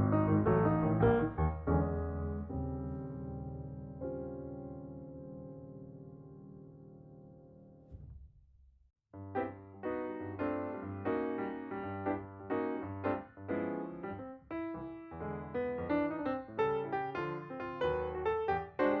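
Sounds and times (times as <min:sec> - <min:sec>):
piano piece: 0:00.0 - 0:08.1, 0:09.2 - 0:19.0.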